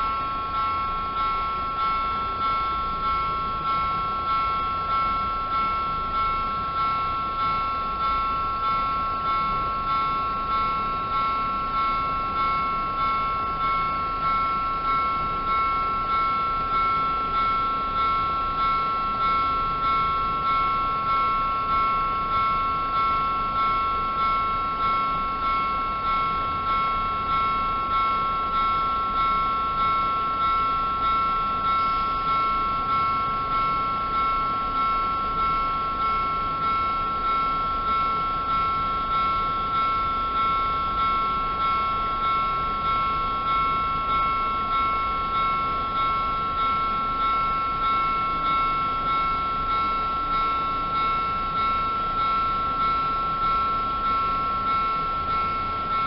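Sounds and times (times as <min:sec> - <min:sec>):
level crossing warning bell: 0:00.0 - 0:56.0.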